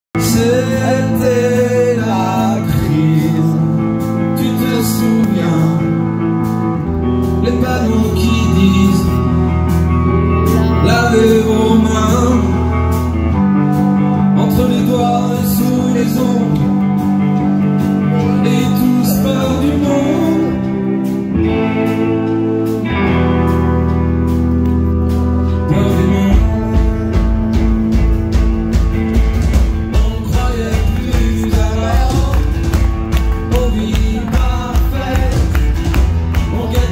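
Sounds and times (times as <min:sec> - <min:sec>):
acoustic and electric guitars: 0:00.1 - 0:36.9
drums: 0:00.1 - 0:36.9
man singing lead vocal: 0:00.2 - 0:13.4, 0:14.0 - 0:23.0, 0:25.4 - 0:27.6, 0:29.7 - 0:36.9.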